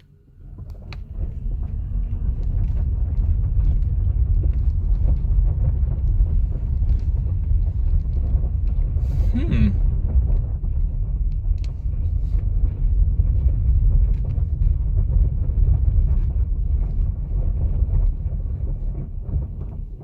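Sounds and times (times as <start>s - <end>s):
tyre and suspension rumble: 0.5s - 20.0s
stones ticking under car: 0.6s - 9.2s, 9.8s - 20.0s.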